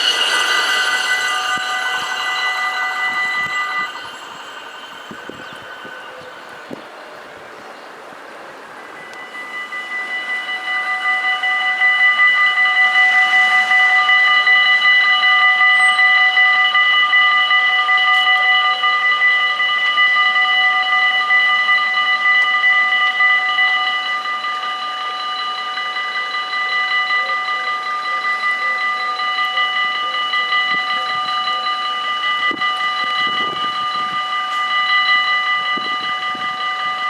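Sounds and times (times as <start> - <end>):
level crossing warning bells: 0.0 - 37.0.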